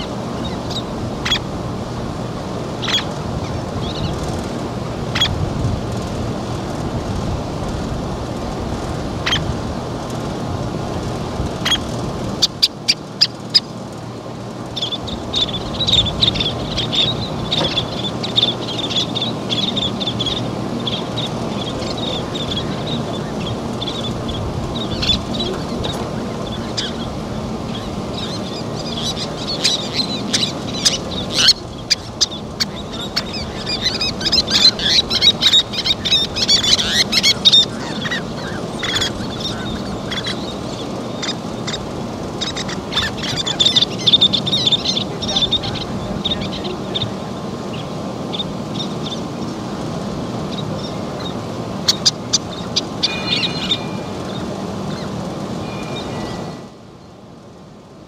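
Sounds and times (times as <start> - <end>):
low background rush: 0.0 - 58.0
terns calling: 0.0 - 58.0.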